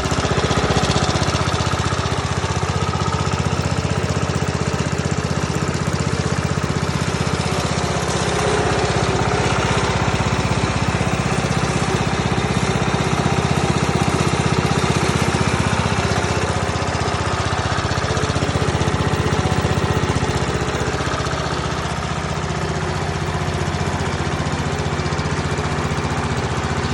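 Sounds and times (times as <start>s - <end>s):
concrete saw engine running: 0.0s - 26.9s.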